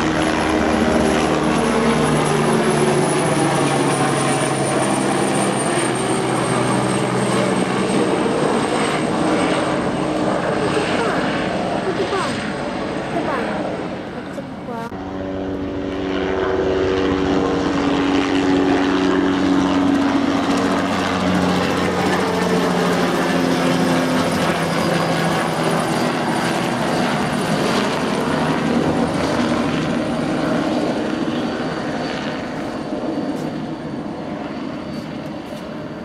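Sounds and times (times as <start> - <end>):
helicopter flying overhead: 0.0 - 36.0.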